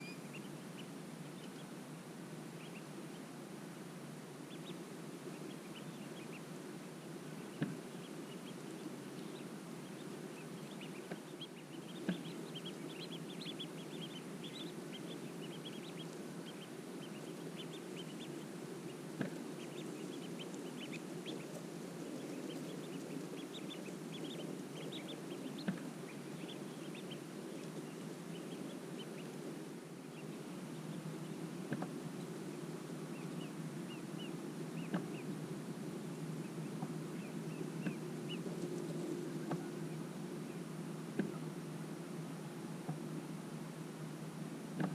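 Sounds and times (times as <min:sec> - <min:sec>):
ducklings peeping: 0:00.0 - 0:01.8, 0:02.4 - 0:03.6, 0:04.4 - 0:43.0
steady low rumble: 0:00.0 - 0:44.8.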